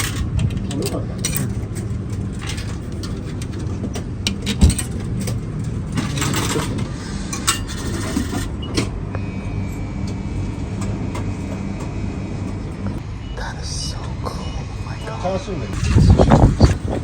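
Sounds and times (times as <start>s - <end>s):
vending machine humming: 0.0s - 17.0s.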